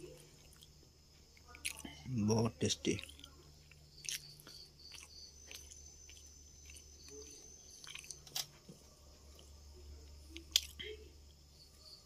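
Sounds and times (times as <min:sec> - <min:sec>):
faint chewing: 0:00.0 - 0:02.2, 0:02.8 - 0:11.8.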